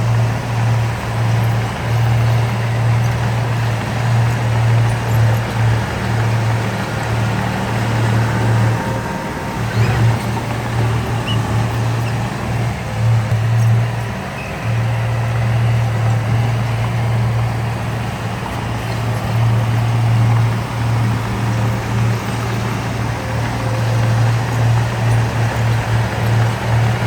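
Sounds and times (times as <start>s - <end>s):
heavy diesel engine under load: 0.0s - 27.0s.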